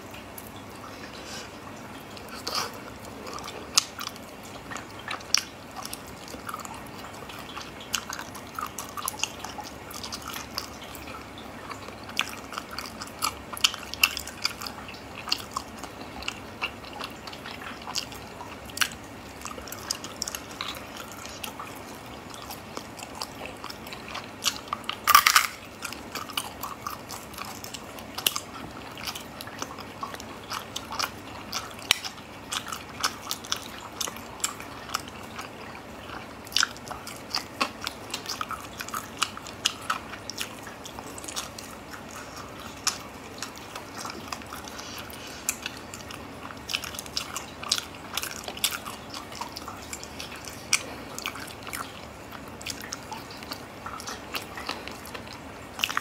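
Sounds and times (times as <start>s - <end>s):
person chewing: 0.0s - 56.0s.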